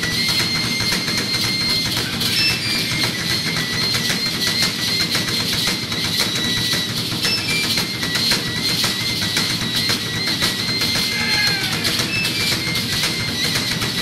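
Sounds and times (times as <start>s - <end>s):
fast steady drumming: 0.0s - 14.0s
high held tones: 0.0s - 14.0s.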